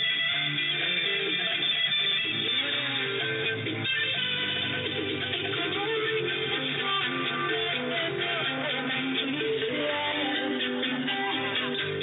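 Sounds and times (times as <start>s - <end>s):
guitar music: 0.0s - 12.0s.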